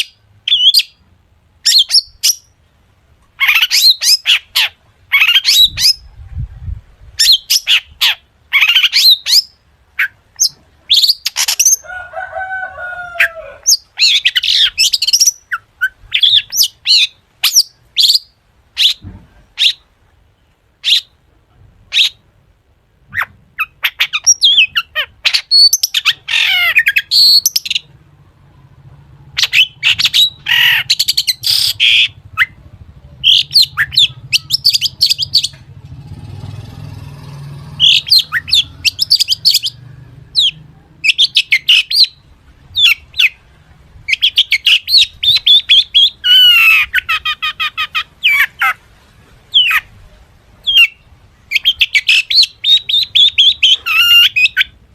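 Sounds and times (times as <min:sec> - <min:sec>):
bird singing sharp chirps and trills: 0:00.0 - 0:01.0, 0:01.6 - 0:02.6, 0:03.4 - 0:06.4, 0:07.2 - 0:11.8, 0:13.6 - 0:19.8, 0:23.1 - 0:35.8, 0:36.4 - 0:43.5, 0:44.1 - 0:48.8, 0:50.6 - 0:54.8.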